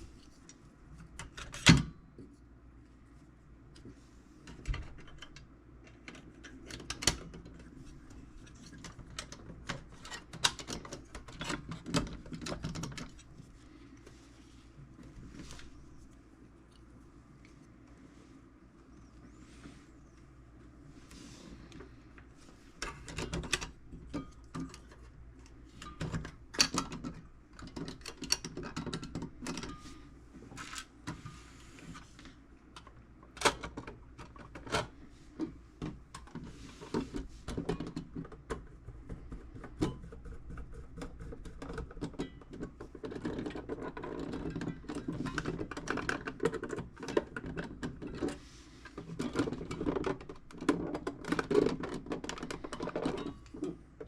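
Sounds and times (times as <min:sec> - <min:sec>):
rubbing and handling noise: 0:05.8 - 0:54.0.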